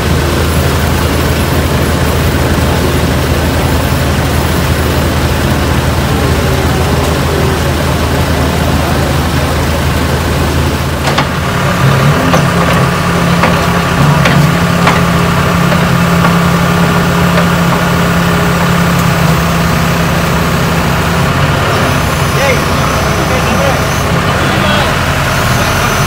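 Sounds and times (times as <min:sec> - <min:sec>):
backhoe loader engine idling: 0:00.0 - 0:26.0.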